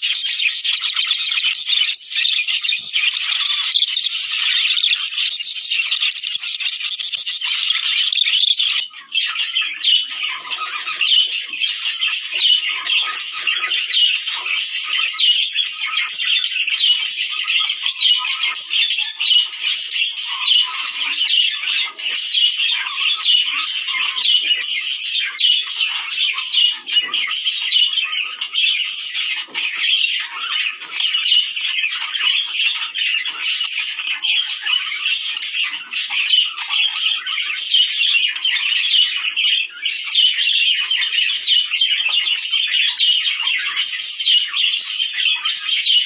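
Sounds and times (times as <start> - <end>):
budgerigars chattering: 0.0 - 46.0.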